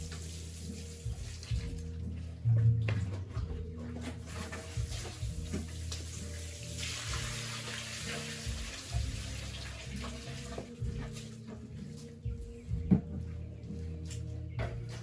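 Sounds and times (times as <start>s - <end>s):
water running: 0.0s - 12.8s.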